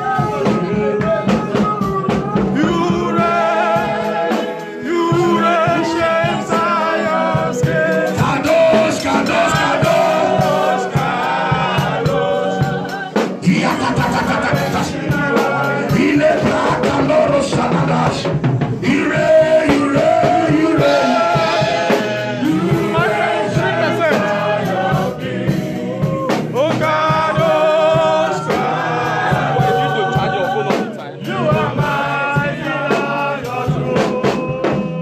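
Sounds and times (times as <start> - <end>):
band with drums: 0.0 - 35.0
voices singing gospel: 0.0 - 35.0.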